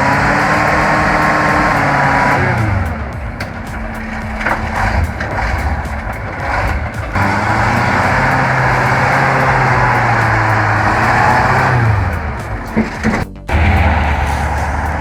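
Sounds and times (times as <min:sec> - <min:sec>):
heavy truck engine under load: 0:00.0 - 0:15.0.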